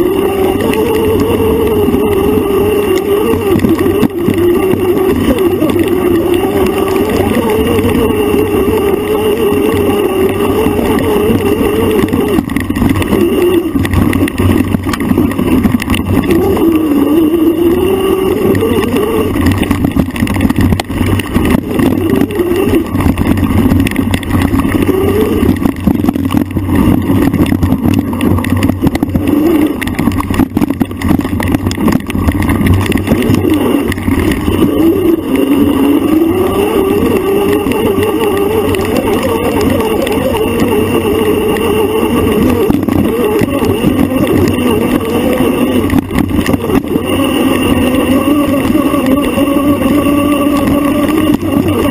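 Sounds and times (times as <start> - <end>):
bike motor revving: 0.0 - 51.9.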